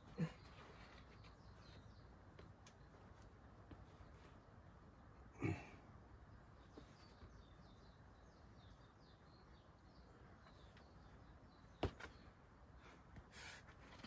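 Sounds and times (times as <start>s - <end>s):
bird chirping faintly: 0.0s - 4.9s, 6.2s - 13.0s.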